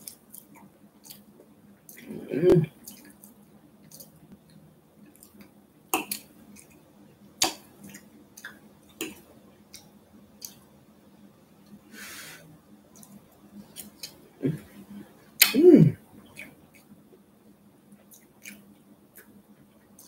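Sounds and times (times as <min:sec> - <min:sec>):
quiet chewing: 0:00.0 - 0:06.8, 0:07.4 - 0:10.7, 0:11.6 - 0:15.5, 0:16.1 - 0:20.0.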